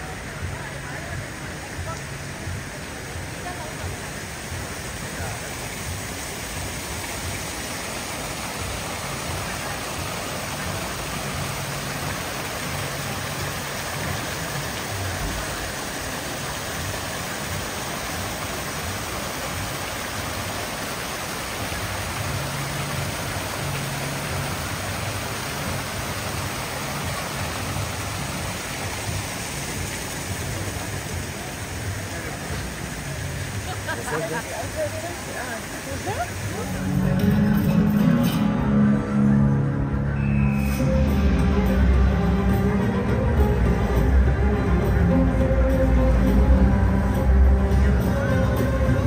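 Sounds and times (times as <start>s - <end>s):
water pouring down fountain: 0.0s - 49.0s.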